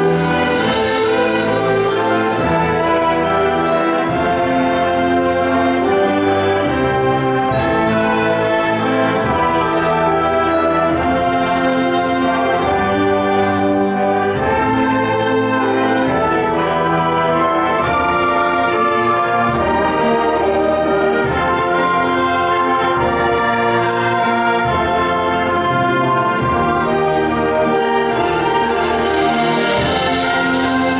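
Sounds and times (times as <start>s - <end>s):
brass: 0.0s - 30.9s.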